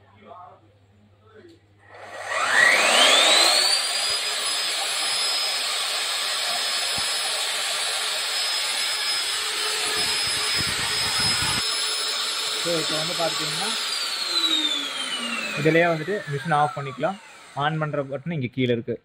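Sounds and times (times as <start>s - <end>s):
core drill motor whining: 1.9s - 18.3s.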